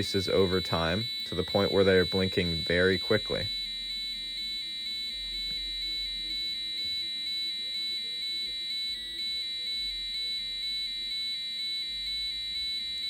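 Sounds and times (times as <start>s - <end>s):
two-tone electronic alarm buzzer: 0.0s - 13.0s.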